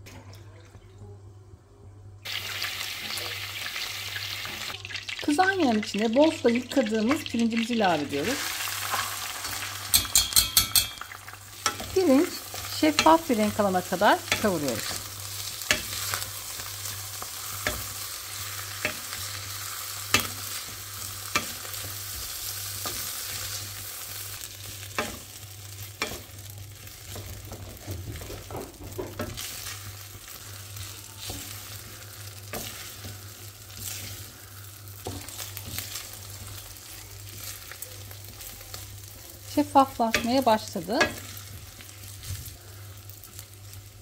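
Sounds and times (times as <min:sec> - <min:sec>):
rice sizzling in oil: 0:02.2 - 0:44.0.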